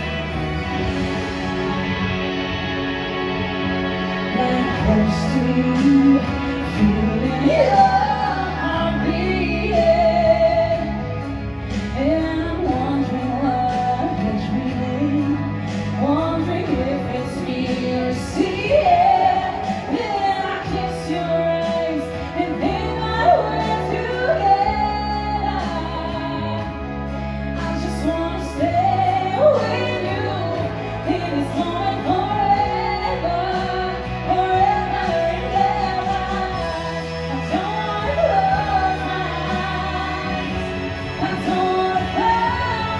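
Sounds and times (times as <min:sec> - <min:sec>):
person singing a slow ballad: 0:03.9 - 0:42.9.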